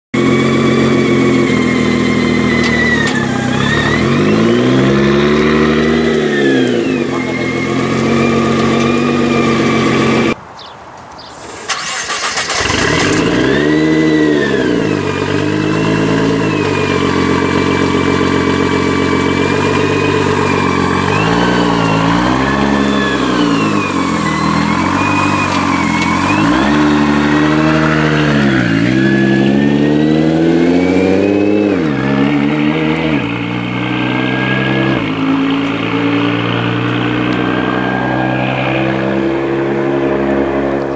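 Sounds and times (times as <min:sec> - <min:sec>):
car engine idling and revving: 0:00.1 - 0:10.4, 0:11.4 - 0:40.9.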